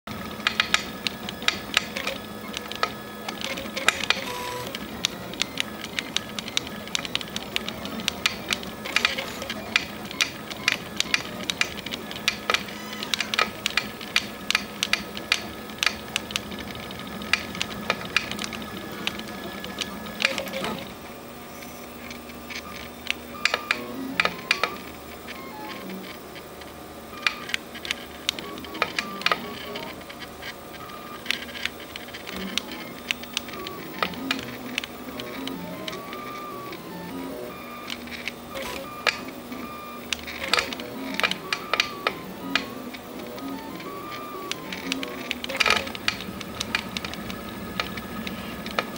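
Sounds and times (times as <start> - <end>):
printer motors whirring: 0.0 - 48.9.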